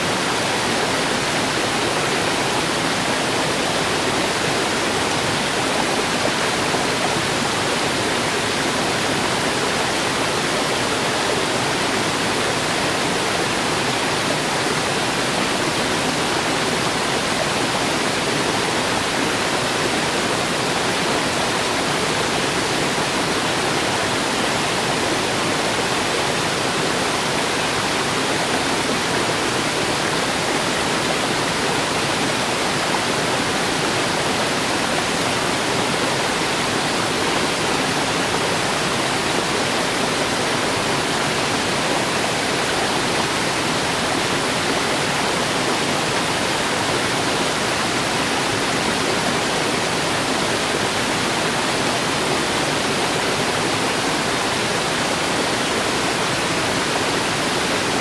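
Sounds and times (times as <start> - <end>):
stream flowing over rocks: 0.0 - 58.0
waterfall rushing: 0.0 - 58.0.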